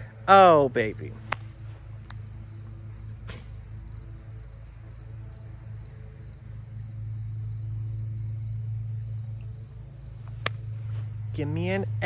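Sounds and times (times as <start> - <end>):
crickets chirping: 0.0 - 12.0
steady low hum: 0.0 - 12.0.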